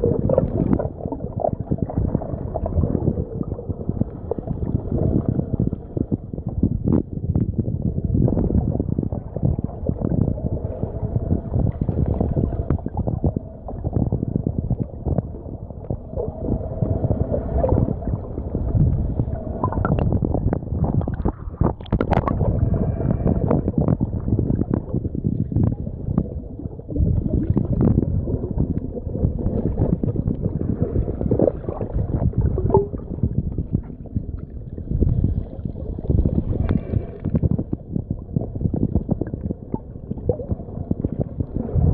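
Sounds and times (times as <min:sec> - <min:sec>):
underwater churning and gurgling: 0:00.0 - 0:41.9.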